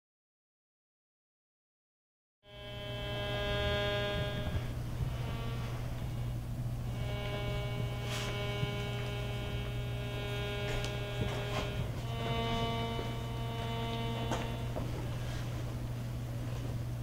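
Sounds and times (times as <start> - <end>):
long droning tones: 2.4 - 17.0
steady low hum: 2.5 - 17.0.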